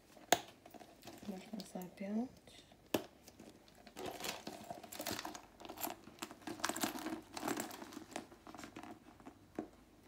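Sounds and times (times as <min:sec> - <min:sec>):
handbag rustling and crinkling: 0:00.0 - 0:01.8, 0:03.3 - 0:09.8.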